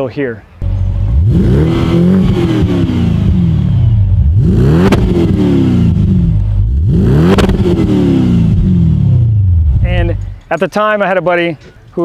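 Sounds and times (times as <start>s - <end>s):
car engine revving: 0.6s - 10.4s.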